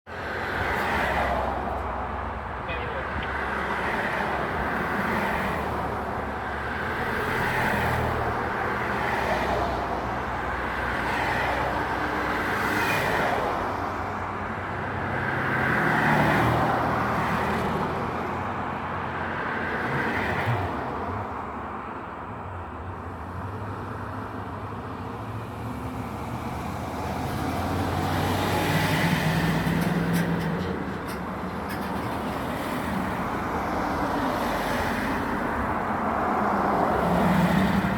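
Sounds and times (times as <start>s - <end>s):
cars and trucks passing: 0.1s - 37.9s.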